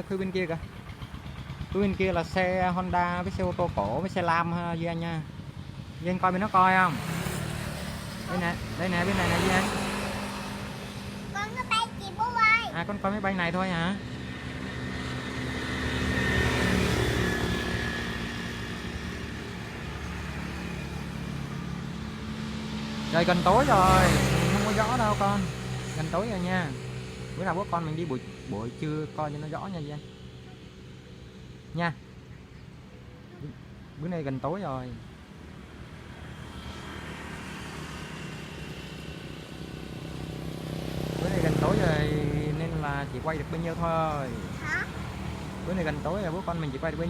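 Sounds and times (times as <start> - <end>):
vehicle engine passing by: 0.0 - 32.5, 33.2 - 47.0.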